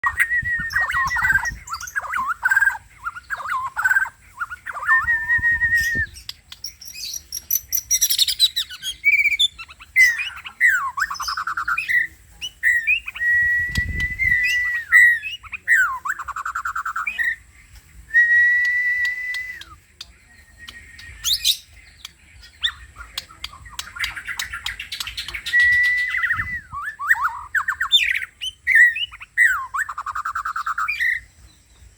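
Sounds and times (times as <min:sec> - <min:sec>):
songbird singing whistles and trills: 0:00.0 - 0:31.9.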